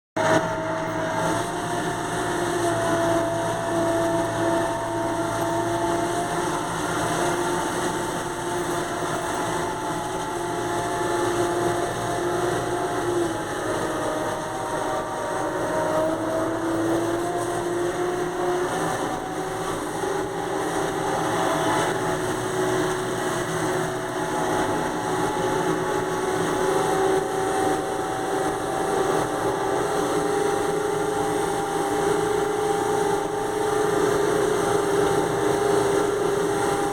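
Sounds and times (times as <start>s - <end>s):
engine-like hum: 0.1s - 36.9s.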